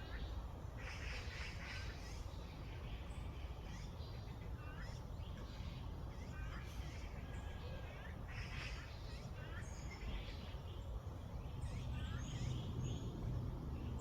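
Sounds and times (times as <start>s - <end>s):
low outdoor rumble: 0.0s - 14.0s
songbirds chirping: 0.0s - 14.0s.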